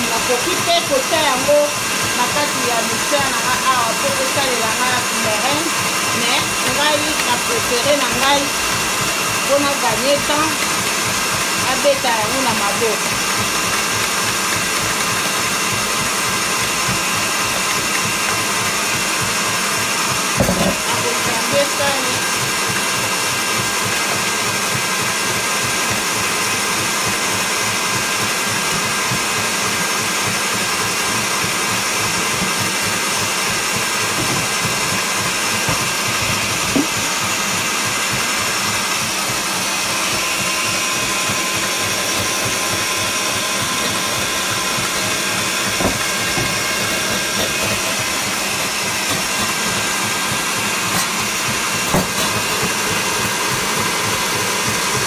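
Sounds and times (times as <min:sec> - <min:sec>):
stand mixer whisking: 0:00.0 - 0:55.0.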